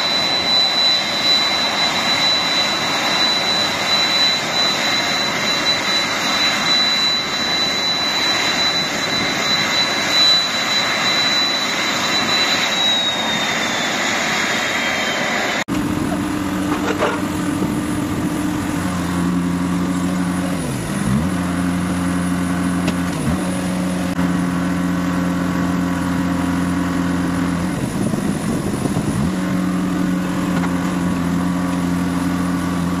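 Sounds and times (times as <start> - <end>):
cargo loader engine running: 0.0 - 13.4, 15.7 - 33.0.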